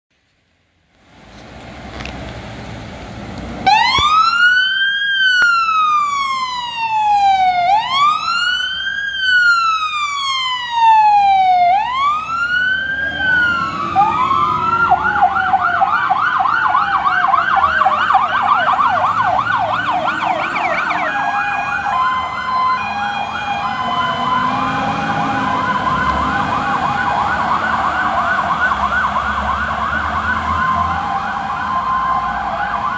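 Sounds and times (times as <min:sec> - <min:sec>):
truck engines rumbling: 0:00.1 - 0:32.9
fire engine siren: 0:03.6 - 0:32.9
two-tone hi-lo siren: 0:03.6 - 0:32.9.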